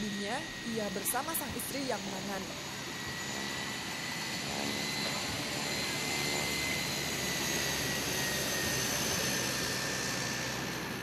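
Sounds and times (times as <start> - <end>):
high engine whine: 0.0 - 11.0
plane engine running: 0.0 - 11.0.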